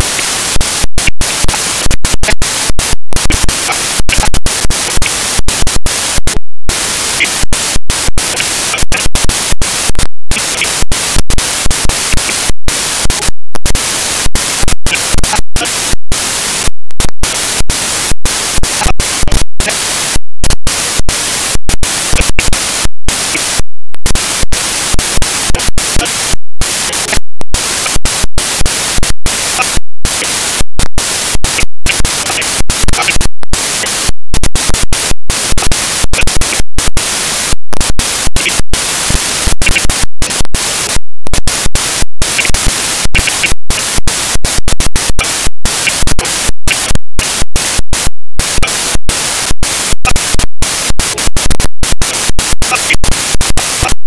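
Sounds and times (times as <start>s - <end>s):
loud digital static: 0.0s - 54.0s.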